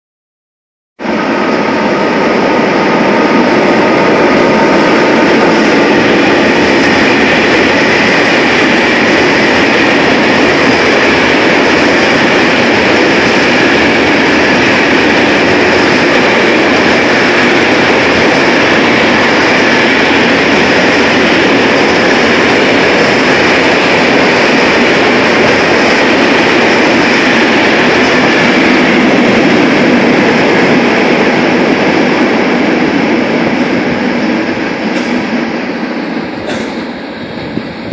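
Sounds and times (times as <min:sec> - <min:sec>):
faint locomotive whine: 0:01.0 - 0:37.9
train wheels rumbling on rails: 0:01.0 - 0:37.9.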